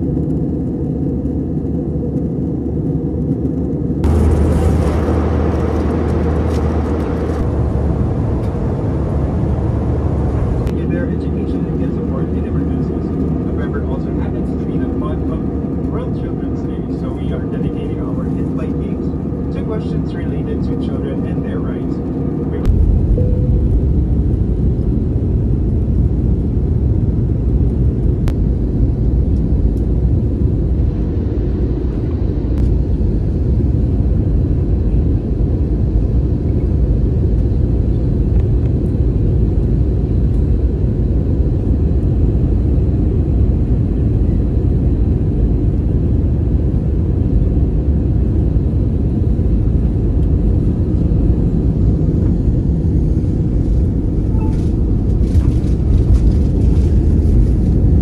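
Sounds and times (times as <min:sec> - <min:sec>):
airliner cabin rumble: 0:00.0 - 0:58.0
jet engine and airflow noise: 0:00.0 - 0:58.0.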